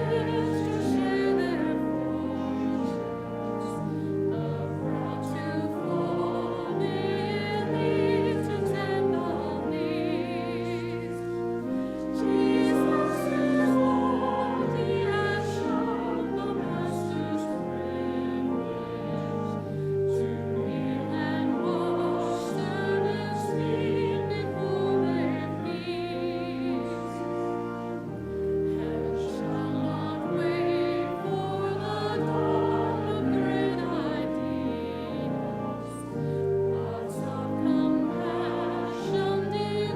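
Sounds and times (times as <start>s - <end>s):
sustained low accompaniment: 0.0s - 39.9s
voices singing a hymn: 0.0s - 39.9s.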